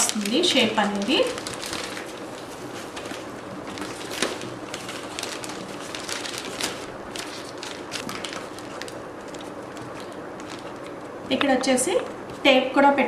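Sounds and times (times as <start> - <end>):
newspaper rustling and crinkling: 0.0 - 12.5.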